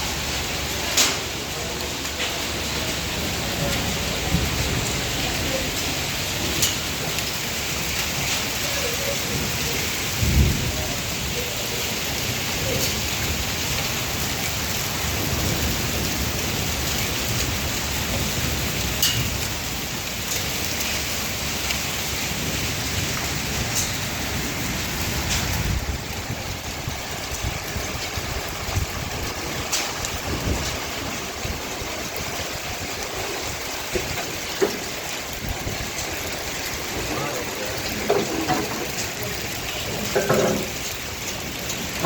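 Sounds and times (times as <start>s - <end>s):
rain and hail pelting down: 0.0s - 42.0s
hailstones clicking: 0.8s - 42.0s.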